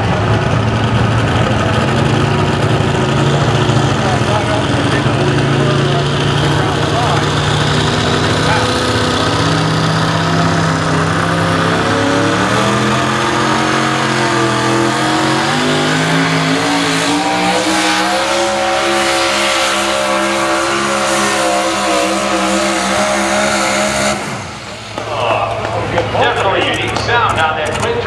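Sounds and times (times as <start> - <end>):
truck engine running flat out: 0.0 - 28.0.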